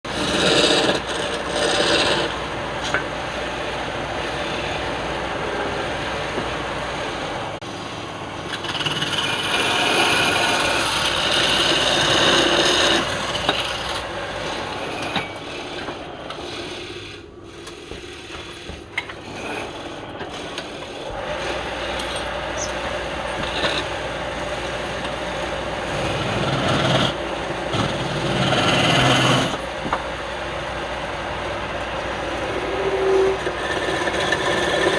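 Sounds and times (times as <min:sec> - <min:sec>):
turning tool rasping wood: 0:00.0 - 0:06.5, 0:08.4 - 0:29.6, 0:32.6 - 0:34.9
wood lathe turning: 0:00.0 - 0:07.8, 0:08.4 - 0:34.9.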